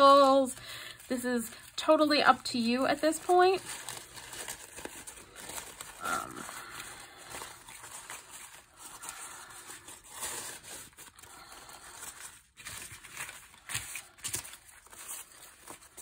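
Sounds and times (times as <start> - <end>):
packing paper crinkling: 0.0 - 16.0
paper crackles: 0.0 - 16.0.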